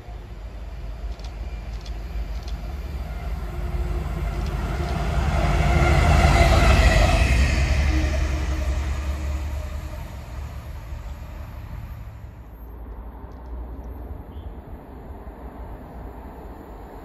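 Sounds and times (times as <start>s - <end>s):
train wheel noise: 0.0s - 14.2s
diesel locomotive passing: 0.0s - 17.0s.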